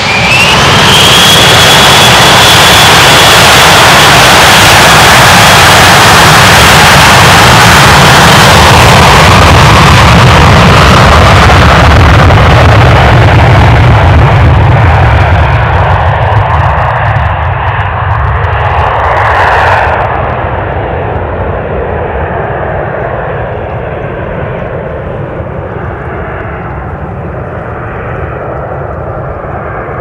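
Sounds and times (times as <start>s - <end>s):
jet engines at take-off: 0.0s - 30.0s.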